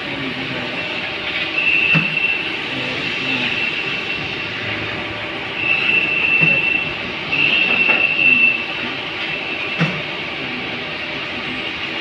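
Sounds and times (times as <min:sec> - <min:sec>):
high-pitched machine whine: 0:00.0 - 0:12.0
machinery humming: 0:00.0 - 0:12.0.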